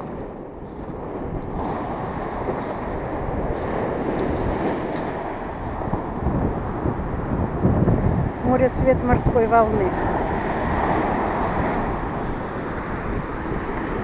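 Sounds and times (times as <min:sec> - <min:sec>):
sea waves breaking on shore: 0:00.0 - 0:14.0
wind buffeting microphone: 0:00.0 - 0:14.0.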